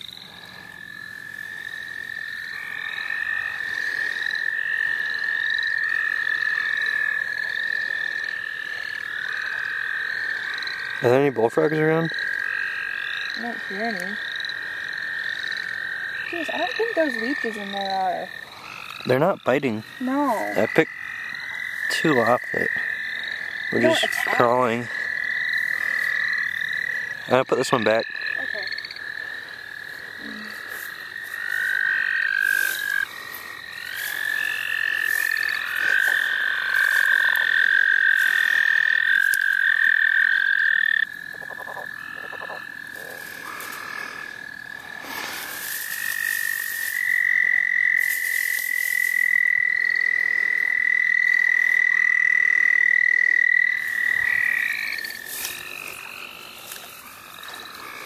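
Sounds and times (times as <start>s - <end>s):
toads trilling: 0.0s - 58.0s.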